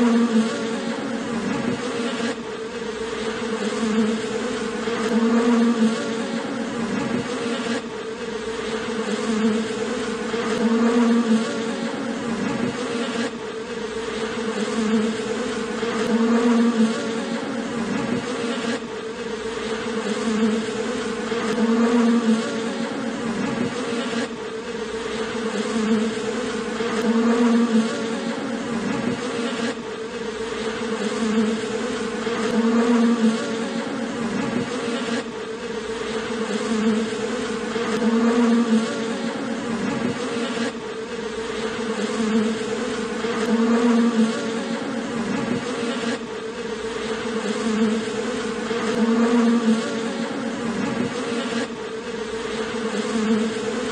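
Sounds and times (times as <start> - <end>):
honeybees buzzing: 0.0 - 53.9.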